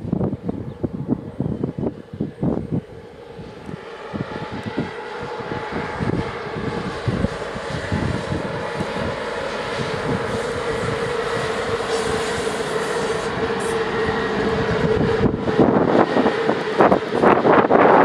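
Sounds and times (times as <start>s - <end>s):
electric locomotive tone: 0.0s - 18.0s
loud buffeting noise: 0.0s - 18.0s
wheels rumbling on rails: 0.0s - 18.0s.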